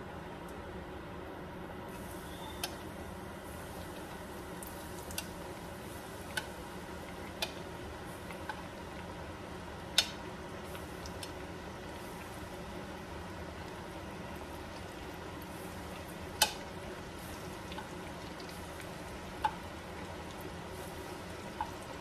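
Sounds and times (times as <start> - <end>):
chicken frying in oil: 1.9 - 22.0.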